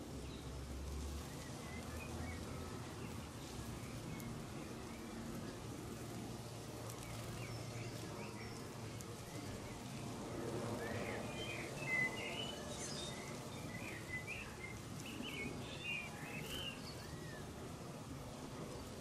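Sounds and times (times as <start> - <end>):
outdoor background hum: 0.0 - 19.0
small birds chirping: 0.0 - 19.0.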